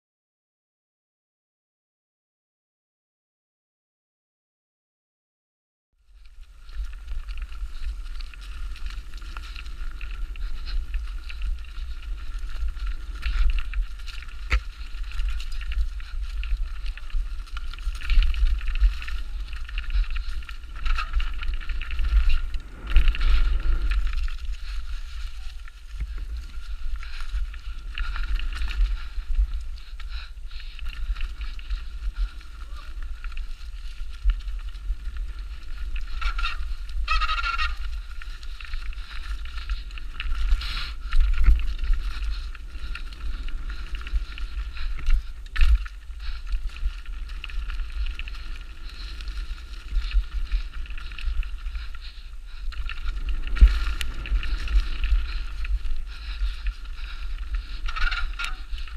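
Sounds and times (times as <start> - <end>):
bike rumbling on dirt trail: 6.0 - 58.9
bike rattling and clattering: 6.2 - 58.9.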